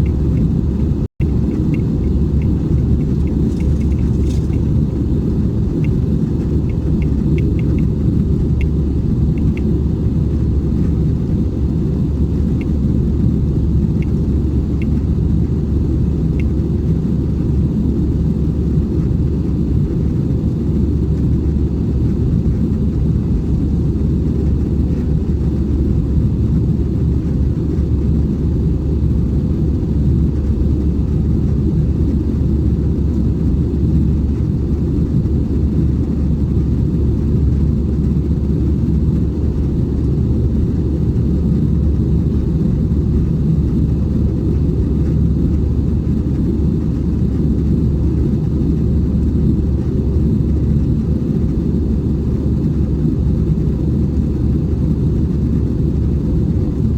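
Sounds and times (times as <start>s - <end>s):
aircraft engine rumble: 0.0s - 56.9s.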